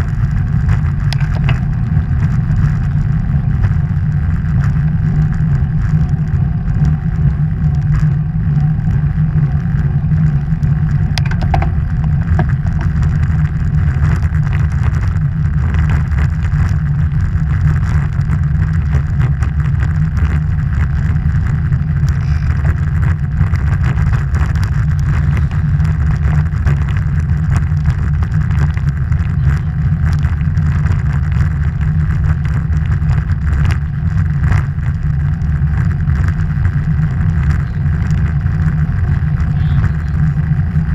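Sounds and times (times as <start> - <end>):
tyre noise on tarmac: 0.0 - 40.9
wind rushing over microphone: 0.0 - 40.9.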